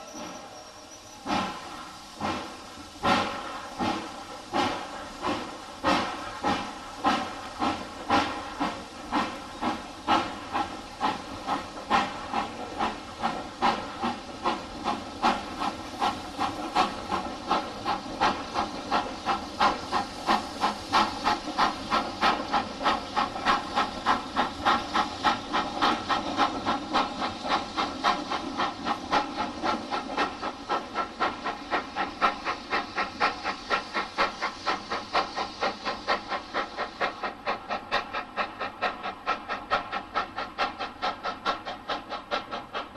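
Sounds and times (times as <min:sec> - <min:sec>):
steam hissing: 0:00.0 - 0:42.9
steam locomotive exhaust chuffs: 0:00.0 - 0:42.9.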